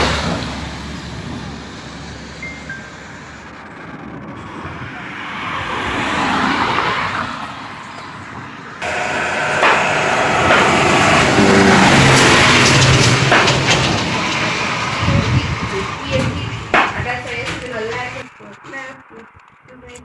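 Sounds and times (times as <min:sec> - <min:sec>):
vehicle passing on road: 0:00.0 - 0:18.4
busy background noise: 0:00.0 - 0:20.0.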